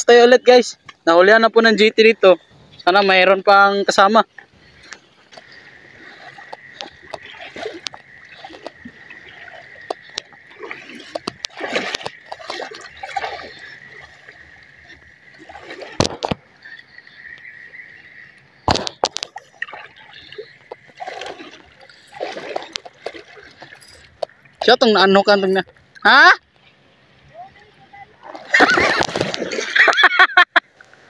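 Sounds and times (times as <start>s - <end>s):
water lapping and splashing: 0.0s - 31.0s.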